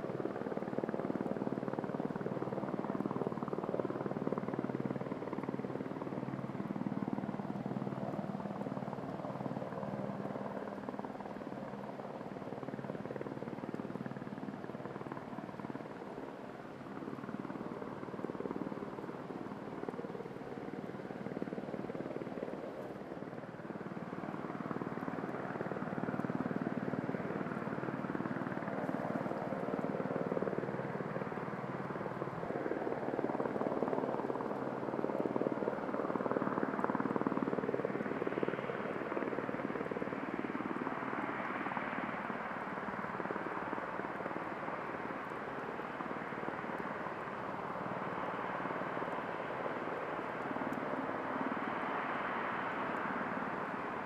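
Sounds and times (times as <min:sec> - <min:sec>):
jet engines running at low power: 0:00.0 - 0:54.0.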